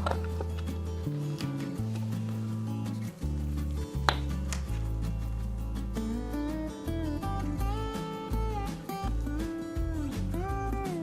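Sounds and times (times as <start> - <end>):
guitar-led music with bass beat: 0.0 - 11.0.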